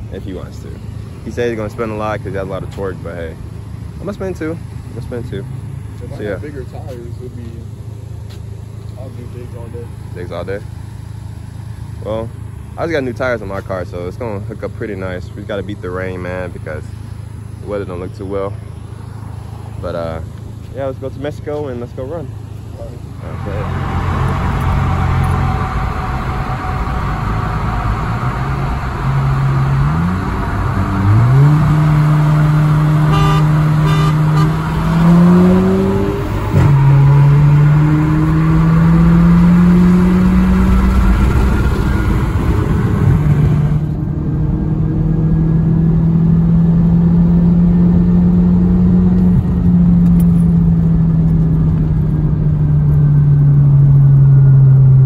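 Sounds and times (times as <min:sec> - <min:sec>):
wind and road rush: 0:00.0 - 0:14.4, 0:15.8 - 0:55.0
car engine accelerating: 0:00.0 - 0:55.0.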